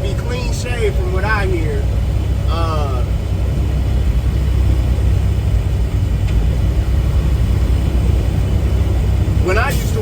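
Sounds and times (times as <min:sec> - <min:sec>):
truck engine and road rumble: 0:00.0 - 0:10.0.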